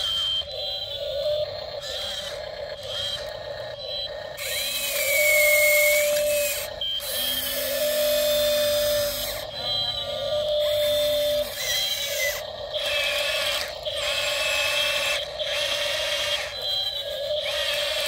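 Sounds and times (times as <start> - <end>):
small electric motors whining: 0.0 - 18.0.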